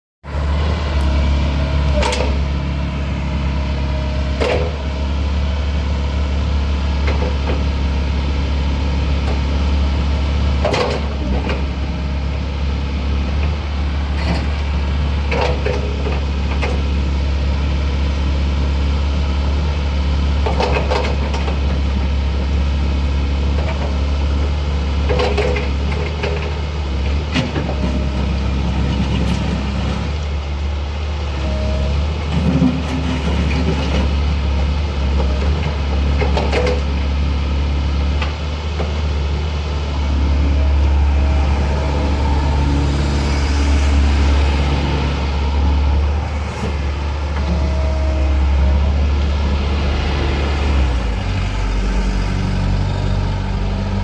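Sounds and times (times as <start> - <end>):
excavator diesel engine running: 0.2 - 54.0.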